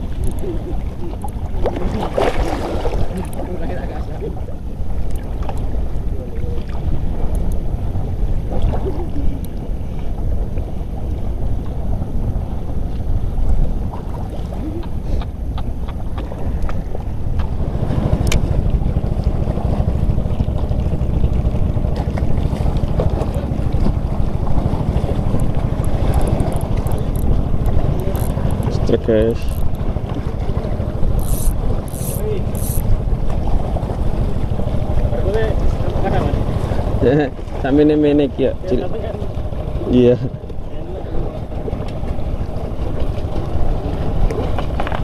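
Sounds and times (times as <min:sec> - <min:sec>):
water sloshing: 0:00.0 - 0:11.3, 0:12.7 - 0:45.0
wind buffeting microphone: 0:00.0 - 0:45.0.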